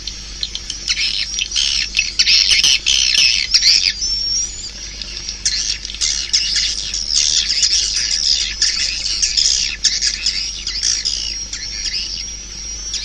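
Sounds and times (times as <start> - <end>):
swiftlets chirping and twittering: 0.0 - 13.0.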